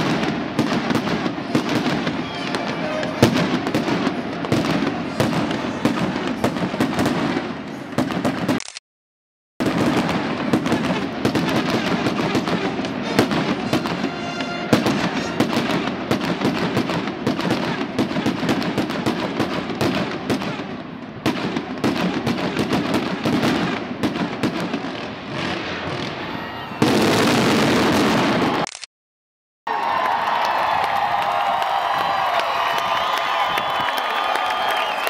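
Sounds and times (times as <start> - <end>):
fireworks crackling and popping: 0.0 - 8.8, 9.6 - 28.8, 30.9 - 35.0.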